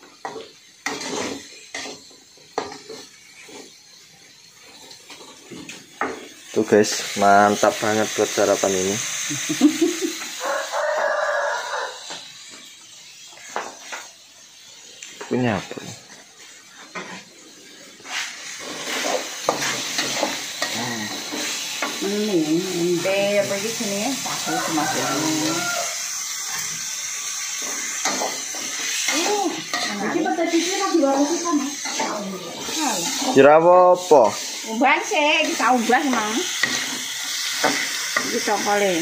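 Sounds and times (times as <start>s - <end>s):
metal spatula scraping wok: 0.0s - 8.6s, 16.0s - 39.0s.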